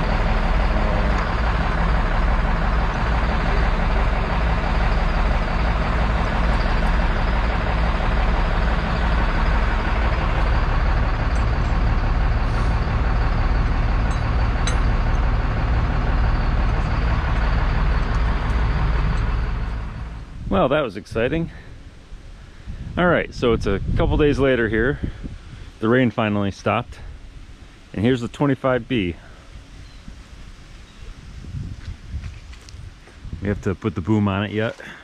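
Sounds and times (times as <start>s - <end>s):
diesel engine running steadily: 0.0s - 35.0s.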